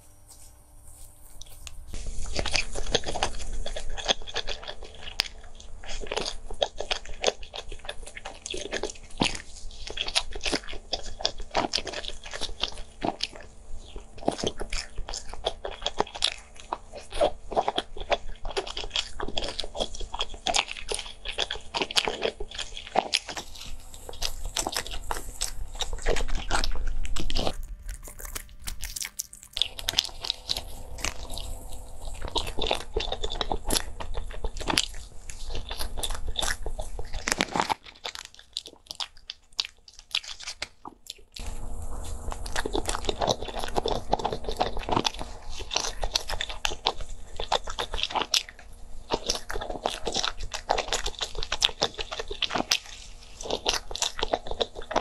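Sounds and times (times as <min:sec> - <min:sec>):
biting and chewing soft cake: 0:00.0 - 0:55.0
mouth and lip sounds: 0:01.4 - 0:55.0.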